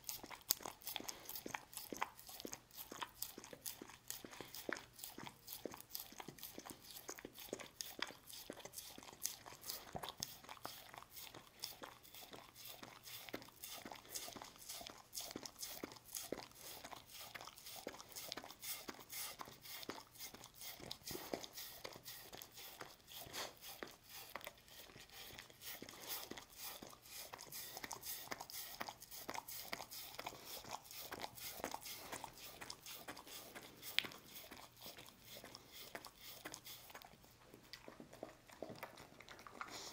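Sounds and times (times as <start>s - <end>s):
dog licking wooden board: 0.0s - 39.9s.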